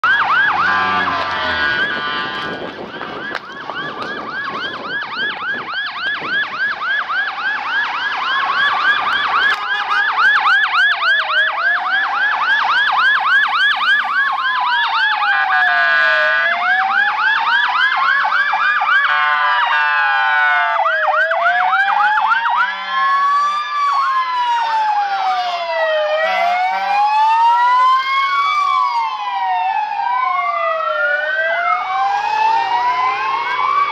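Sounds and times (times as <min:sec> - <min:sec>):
fast warbling siren yelp: 0:00.0 - 0:33.9
rising and falling siren wails: 0:00.0 - 0:33.9.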